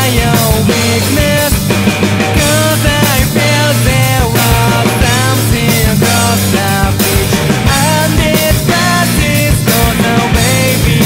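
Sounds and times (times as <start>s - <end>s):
punk rock band playing: 0.0s - 11.0s.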